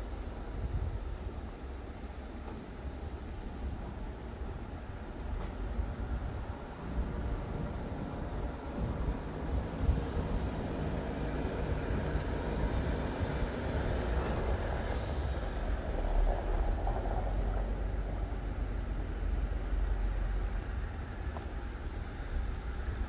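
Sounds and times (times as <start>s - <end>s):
freight train rumble: 0.0s - 23.0s.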